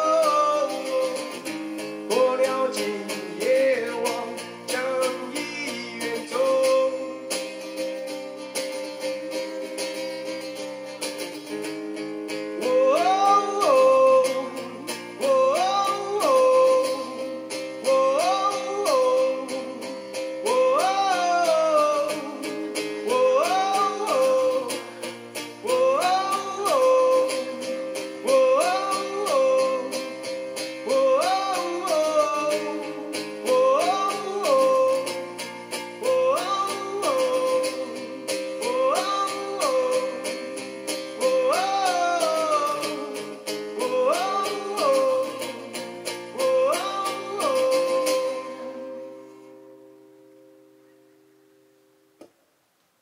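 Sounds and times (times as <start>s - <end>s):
man singing into a microphone: 0.0s - 7.9s, 11.4s - 49.1s
acoustic guitar: 0.0s - 52.8s.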